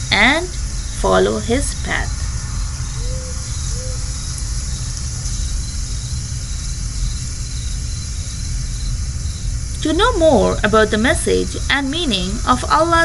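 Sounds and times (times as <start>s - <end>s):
constant hum: 0.0s - 13.0s
steady low rumble: 0.0s - 13.0s.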